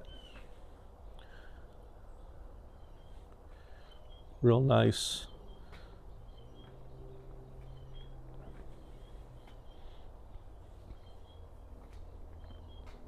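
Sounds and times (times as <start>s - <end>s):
faint bird chirps: 0.0s - 11.7s.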